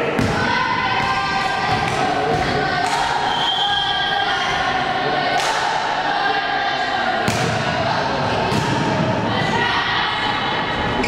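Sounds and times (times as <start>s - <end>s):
crowd chanting and shouting: 0.0s - 11.0s.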